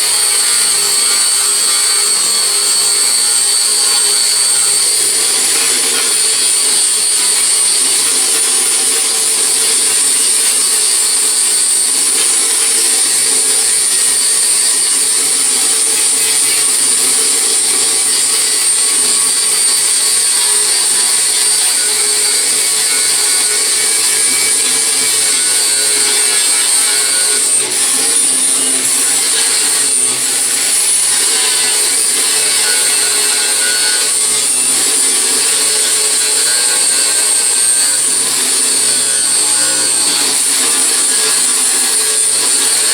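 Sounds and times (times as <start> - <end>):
grinder whining: 0.0 - 42.9.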